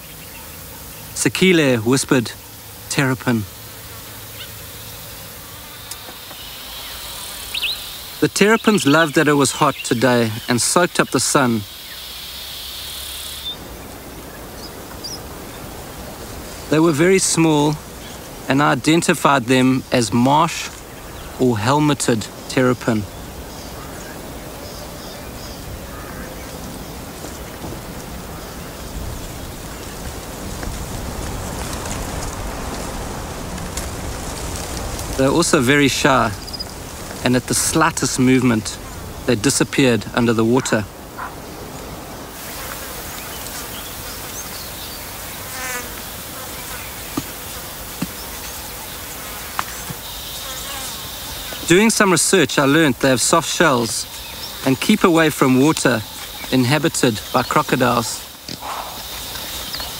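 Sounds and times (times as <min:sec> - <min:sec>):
insect trill: 0:00.0 - 0:41.6, 0:42.4 - 0:59.9
insects buzzing: 0:00.0 - 0:59.9
outdoor background noise: 0:00.0 - 0:59.9.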